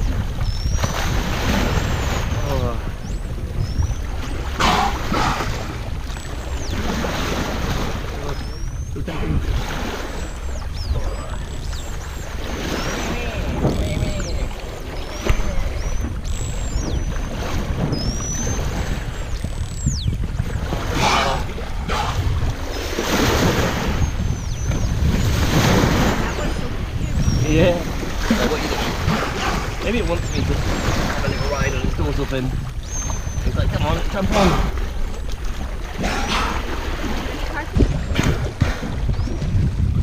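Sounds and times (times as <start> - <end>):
bow wave rushing and splashing: 0.0 - 40.0
wind buffeting microphone: 0.0 - 40.0.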